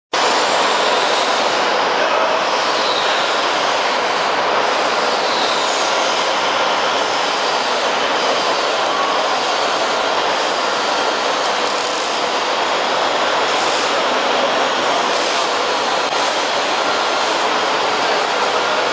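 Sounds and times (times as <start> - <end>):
machinery rushing hiss: 0.2 - 18.9.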